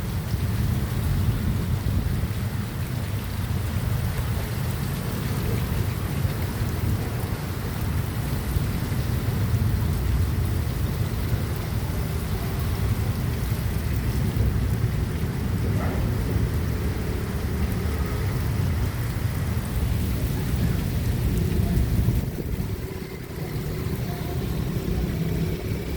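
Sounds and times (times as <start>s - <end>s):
heavy rain falling: 0.0s - 25.9s
low thunder rumble: 0.0s - 25.9s.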